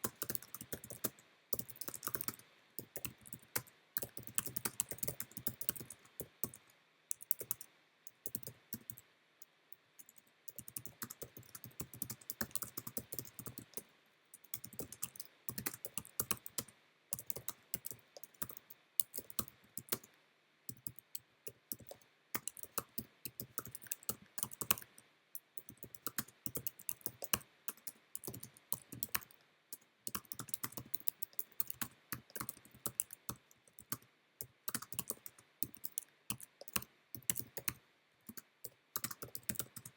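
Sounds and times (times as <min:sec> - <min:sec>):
computer keyboard typing: 0:00.0 - 0:07.6, 0:08.2 - 0:09.0, 0:10.0 - 0:13.8, 0:14.4 - 0:20.1, 0:20.7 - 0:29.4, 0:30.1 - 0:34.0, 0:34.7 - 0:39.9.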